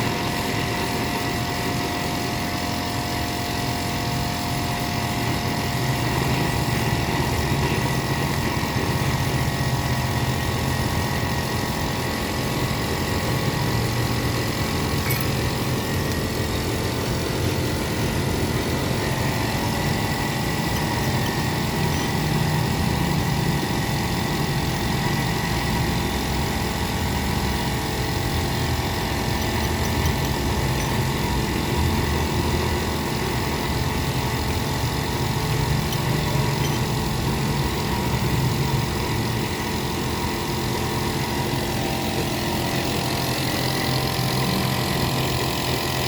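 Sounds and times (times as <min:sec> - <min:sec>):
car engine idling: 0:00.0 - 0:40.2.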